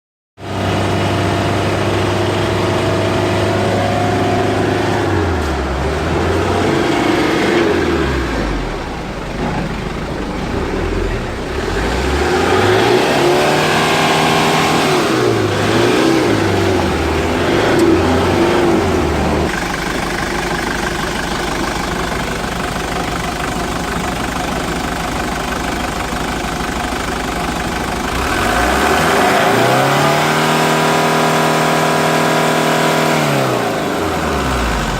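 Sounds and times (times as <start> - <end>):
car engine idling and revving: 0.4 - 34.9.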